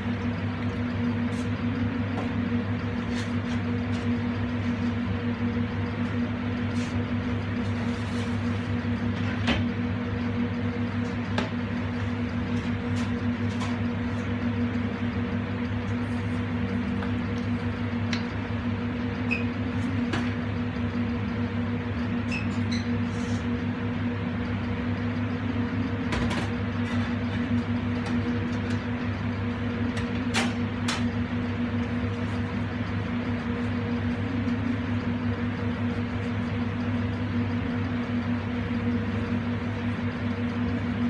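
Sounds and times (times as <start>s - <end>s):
kitchen machinery humming: 0.0s - 41.0s.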